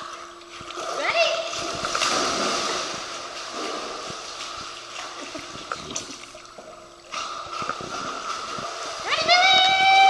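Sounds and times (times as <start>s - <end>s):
pool water splashing: 0.0s - 10.0s.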